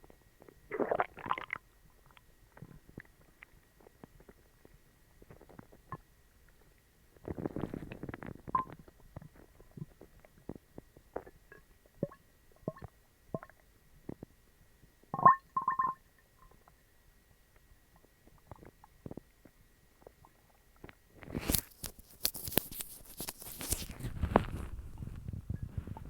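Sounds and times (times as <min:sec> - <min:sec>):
stomach gurgling: 0:00.0 - 0:16.7, 0:17.9 - 0:21.8, 0:23.6 - 0:26.0.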